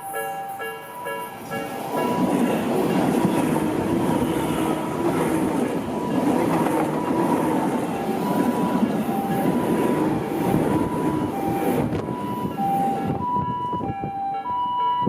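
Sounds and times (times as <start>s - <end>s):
train wheels rumbling on rails: 0.0s - 14.1s
level crossing warning bell: 0.0s - 15.0s.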